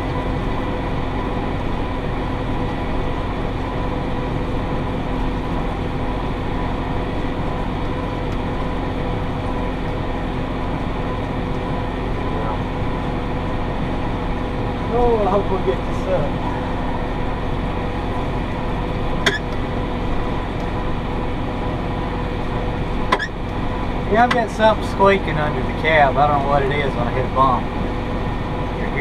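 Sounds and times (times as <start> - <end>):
constant machine whine: 0.0 - 29.0
tractor engine droning: 0.0 - 29.0.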